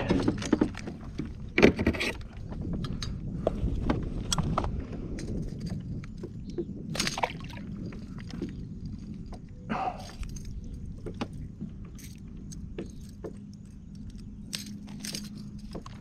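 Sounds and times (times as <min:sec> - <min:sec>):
fishing gear clicks and knocks: 0:00.0 - 0:16.0
steady low rumble: 0:00.0 - 0:16.0.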